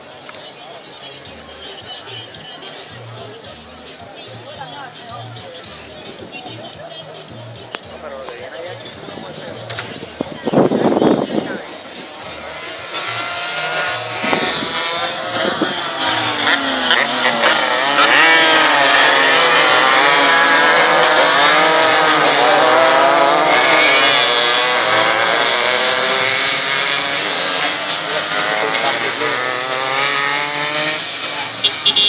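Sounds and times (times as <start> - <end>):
racing motorcycle engines revving: 0.0 - 32.0.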